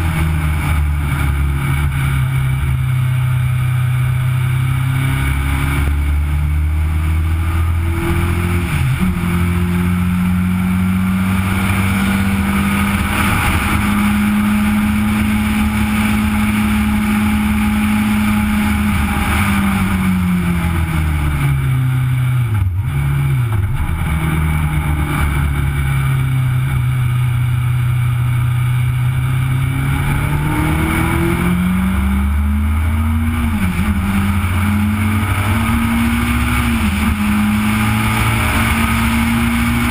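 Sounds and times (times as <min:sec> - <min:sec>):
race car engine revving hard: 0:00.0 - 0:27.5, 0:28.3 - 0:39.9
wind and road noise: 0:00.0 - 0:39.9.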